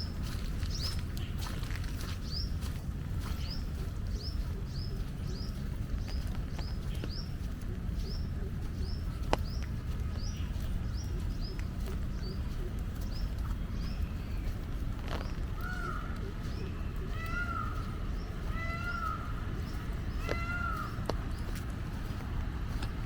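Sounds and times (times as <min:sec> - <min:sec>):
bird chirping: 0:00.0 - 0:22.8
steady low rumble: 0:00.0 - 0:23.0.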